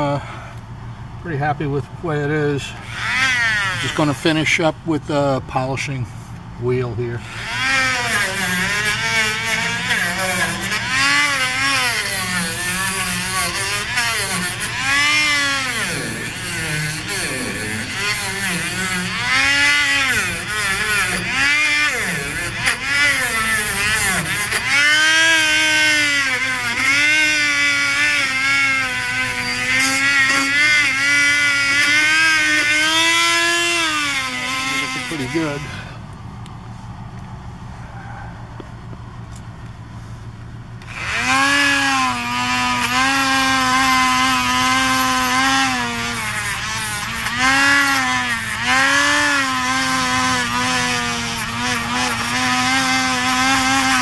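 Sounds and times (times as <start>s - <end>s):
rotary tool whining: 2.6s - 4.7s, 7.1s - 36.1s, 40.8s - 54.0s.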